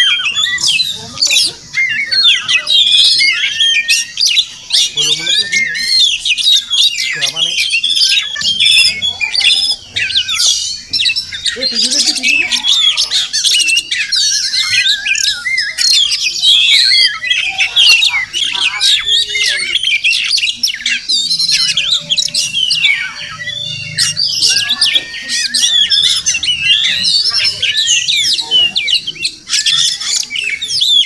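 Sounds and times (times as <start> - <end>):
bird singing whistles and trills: 0.0 - 31.0.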